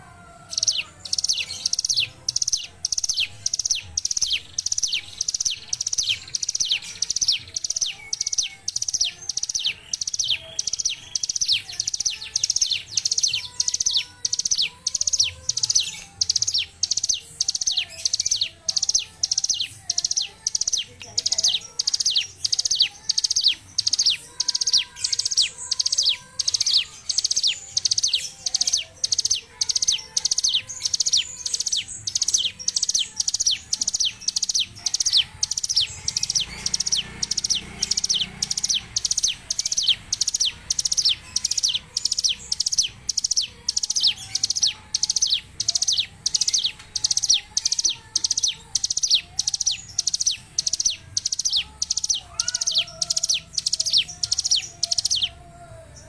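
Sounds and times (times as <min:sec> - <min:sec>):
bird rattling song: 0:00.0 - 0:55.4.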